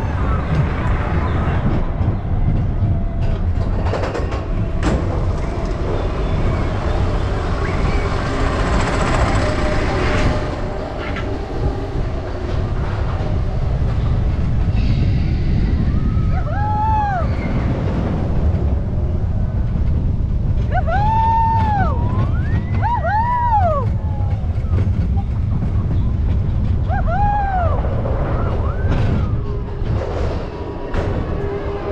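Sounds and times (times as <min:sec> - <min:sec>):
roller coaster wheels rumbling on rails: 0:00.0 - 0:31.9.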